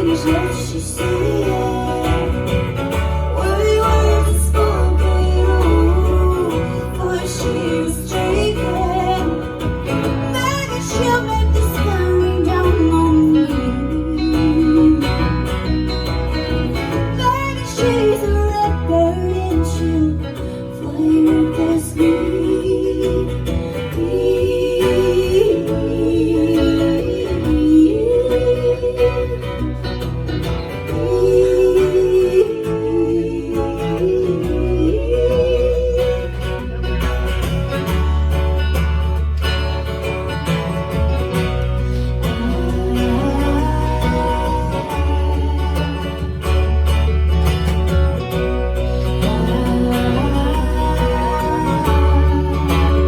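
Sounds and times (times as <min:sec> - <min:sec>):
acoustic country band music: 0:00.0 - 0:53.0.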